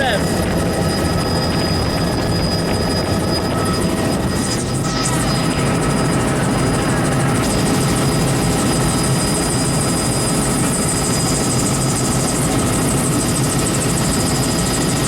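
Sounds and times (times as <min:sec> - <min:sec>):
helicopter rotor and engine: 0:00.0 - 0:15.0
high-pitched whine: 0:00.0 - 0:15.0.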